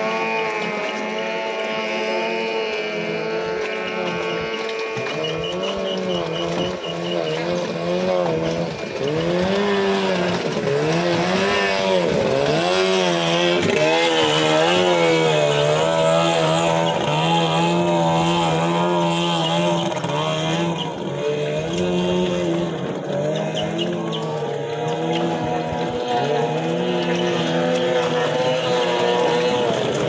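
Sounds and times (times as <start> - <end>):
outboard motors running hard: 0.0 - 30.0.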